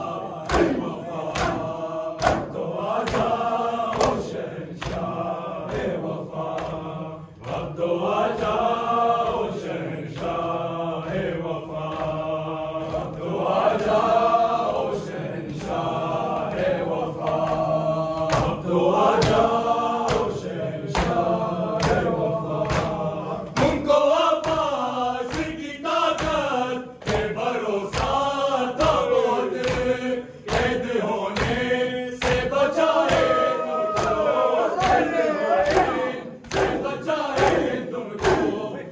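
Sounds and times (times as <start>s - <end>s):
men chanting a lament: 0.0s - 38.9s.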